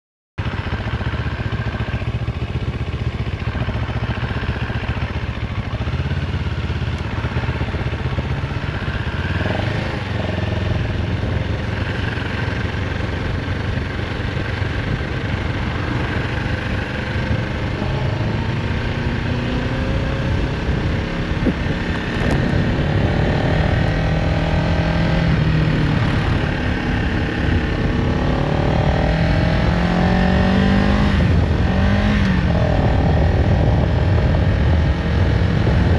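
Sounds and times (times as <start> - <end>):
motorcycle engine running: 0.4 - 35.9.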